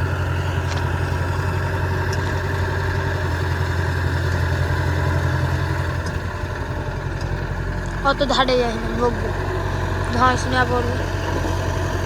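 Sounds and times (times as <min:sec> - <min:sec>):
diesel machinery engine running: 0:00.0 - 0:12.0.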